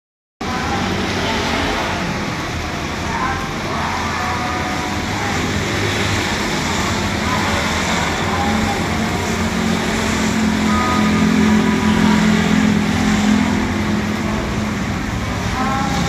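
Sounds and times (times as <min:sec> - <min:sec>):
steady rain: 0:00.4 - 0:16.0
vehicle engine hum: 0:00.4 - 0:16.0.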